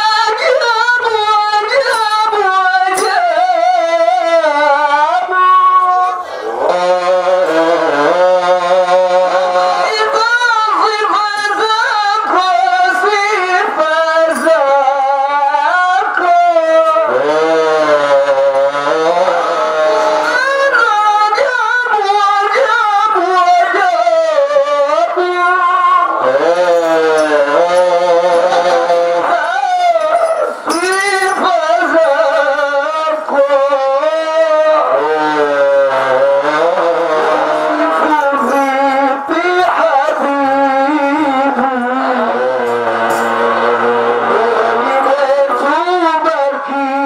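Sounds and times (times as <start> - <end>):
person singing devotional song: 0.0 - 47.0.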